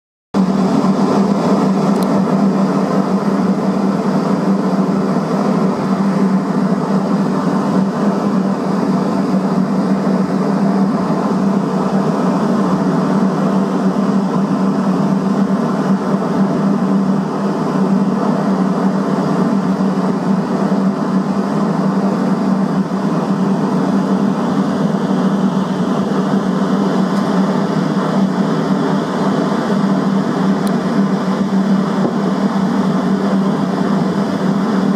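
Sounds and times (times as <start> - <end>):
boat engine droning: 0.4 - 34.9.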